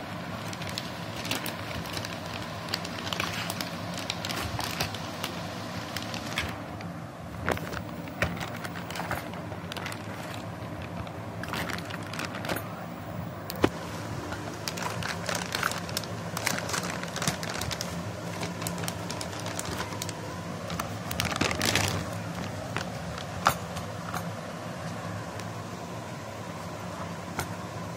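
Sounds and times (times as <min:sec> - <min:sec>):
plastic and cardboard crinkling: 0:00.3 - 0:24.3.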